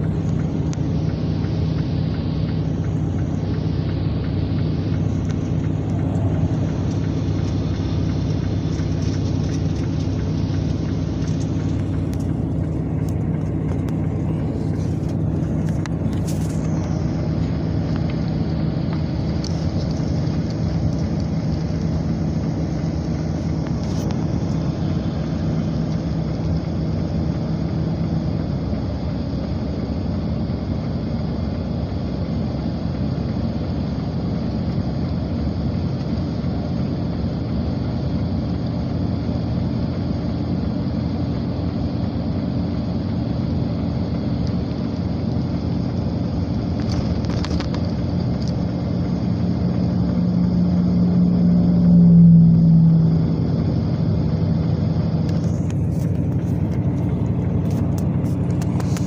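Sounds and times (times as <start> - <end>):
low hum: 0.0 - 27.7, 38.8 - 59.0
car road and engine rumble: 0.0 - 59.0.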